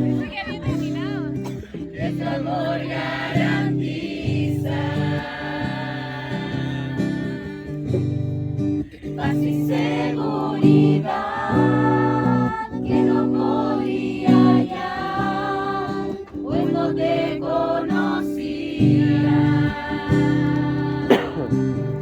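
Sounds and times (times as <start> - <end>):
voices singing together: 0.0 - 8.2, 8.9 - 22.0
guitar: 0.0 - 22.0.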